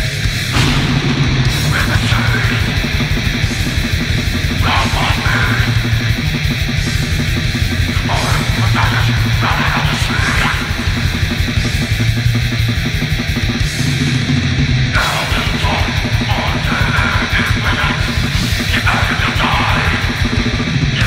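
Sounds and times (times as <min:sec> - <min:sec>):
distorted electric guitars: 0:00.0 - 0:21.0
drums: 0:00.0 - 0:21.0.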